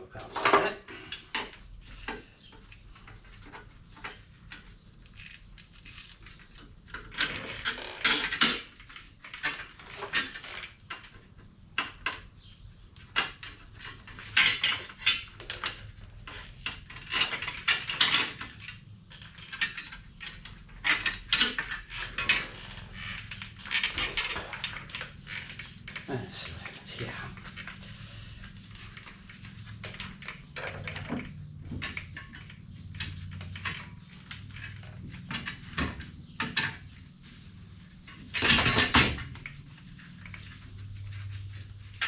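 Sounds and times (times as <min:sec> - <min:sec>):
metal parts and tools clinking: 0:00.2 - 0:42.0.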